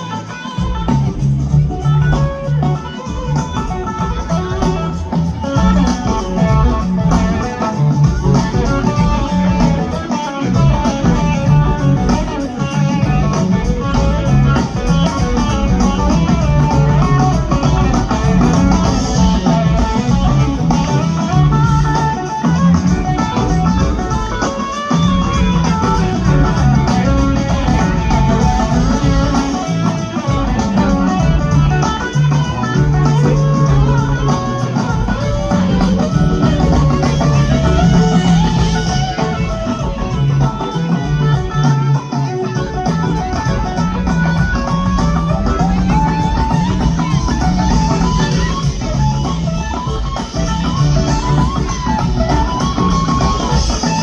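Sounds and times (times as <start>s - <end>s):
bass guitar: 0.0s - 54.0s
electric guitar: 0.0s - 54.0s.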